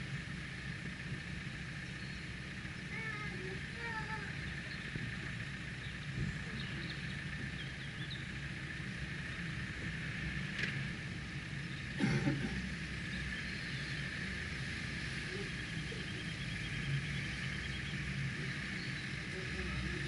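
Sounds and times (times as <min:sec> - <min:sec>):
car engine idling: 0:00.0 - 0:20.0
birds chirping: 0:00.1 - 0:20.0.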